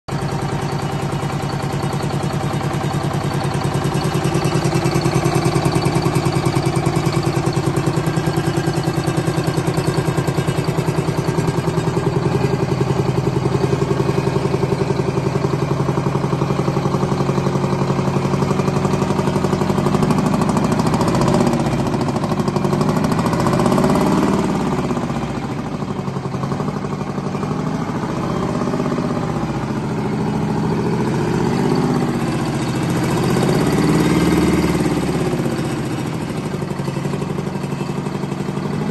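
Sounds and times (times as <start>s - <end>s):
diesel engine idling: 0.1s - 38.9s.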